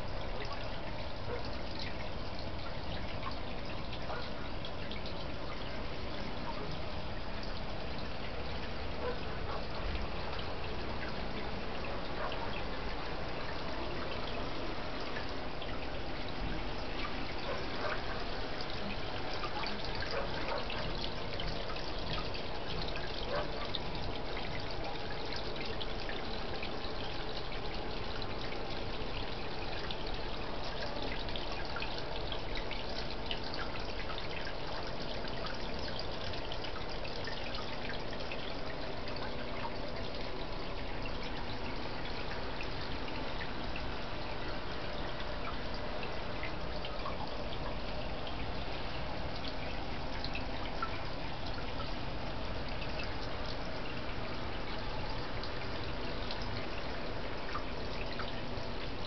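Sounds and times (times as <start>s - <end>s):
water trickling into pond: 0.0s - 59.0s.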